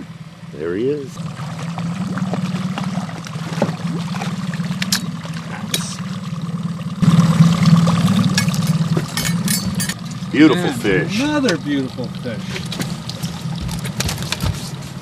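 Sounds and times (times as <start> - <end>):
boat engine running: 0.0 - 15.0
water splashing: 0.0 - 15.0.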